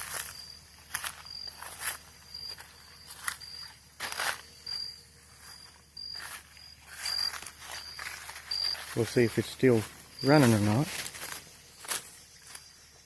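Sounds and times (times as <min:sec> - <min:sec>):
footsteps crunching on path: 0:00.0 - 0:13.0.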